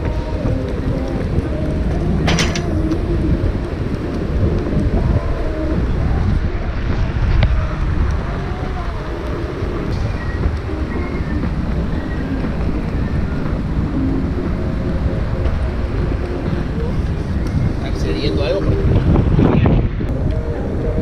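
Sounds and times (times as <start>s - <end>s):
steady low rumble: 0.0s - 21.0s
wind buffeting the microphone: 0.0s - 21.0s.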